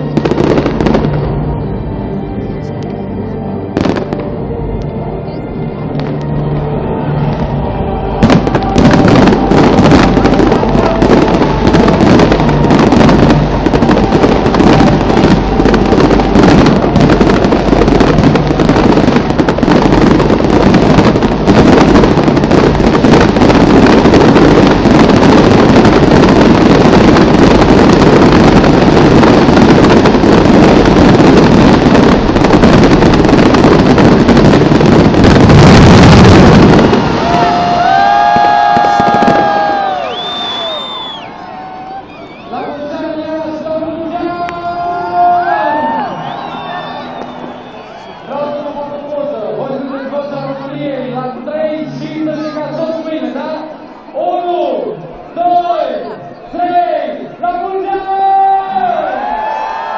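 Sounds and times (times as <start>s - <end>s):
fireworks bangs and crackling: 0.0s - 1.4s, 3.8s - 4.4s, 8.2s - 54.2s.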